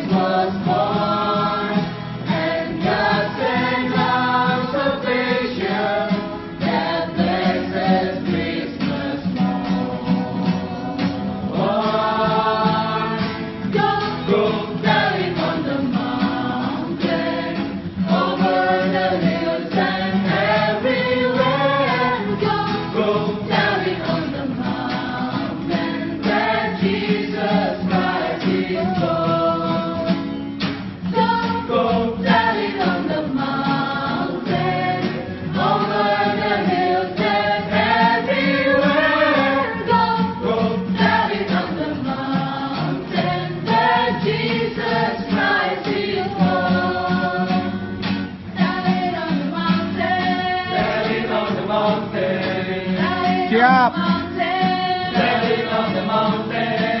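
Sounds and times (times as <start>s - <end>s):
vocal group singing in harmony: 0.0s - 57.0s.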